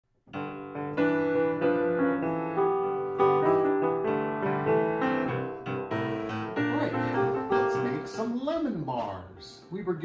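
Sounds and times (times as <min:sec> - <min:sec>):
piano melody: 0:00.2 - 0:10.0.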